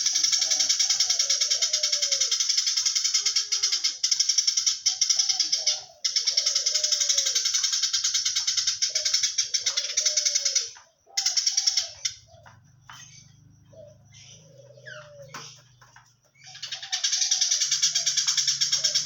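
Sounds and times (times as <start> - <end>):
sparrow chattering: 0.0 - 15.8, 16.4 - 19.0.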